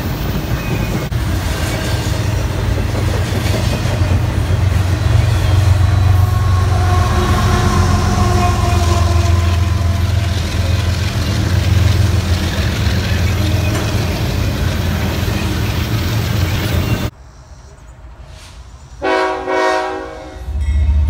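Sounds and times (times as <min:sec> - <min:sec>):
diesel locomotive engine: 0:00.0 - 0:21.0
freight train rumbling past: 0:00.0 - 0:21.0.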